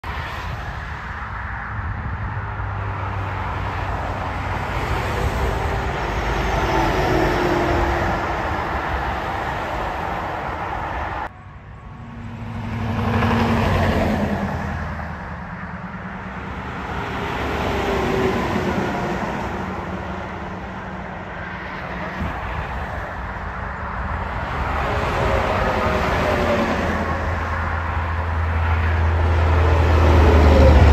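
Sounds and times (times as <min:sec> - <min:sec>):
highway traffic passing: 0:00.0 - 0:30.9.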